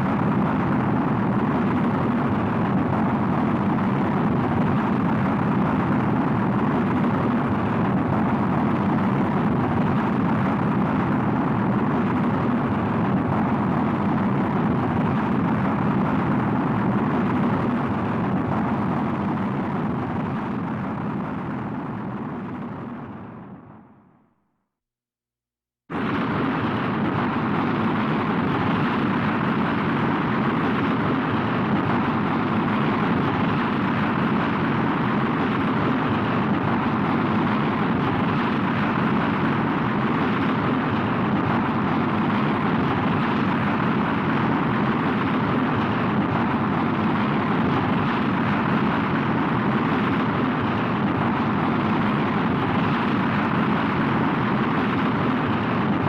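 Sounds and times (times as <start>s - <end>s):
steady rocket rumble: 0.0s - 24.2s, 25.9s - 56.0s.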